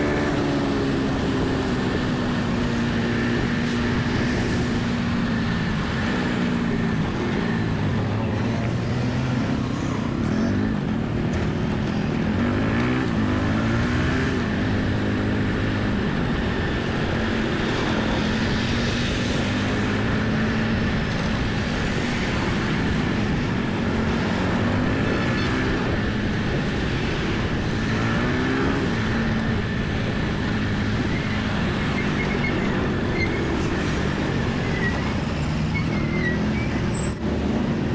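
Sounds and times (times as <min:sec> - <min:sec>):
road and wind noise: 0:00.0 - 0:37.9.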